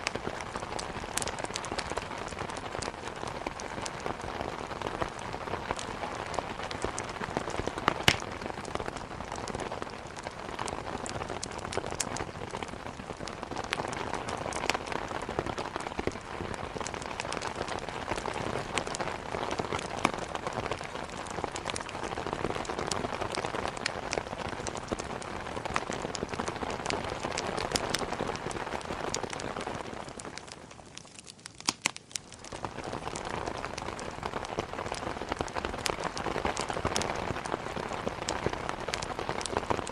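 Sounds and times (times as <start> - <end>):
pouring rain: 0.0 - 39.9
wood fire crackling: 0.0 - 39.9.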